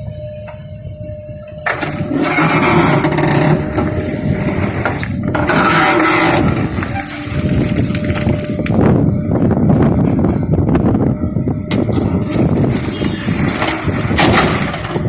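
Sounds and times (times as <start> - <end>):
diesel engine working hard: 1.4 - 15.0.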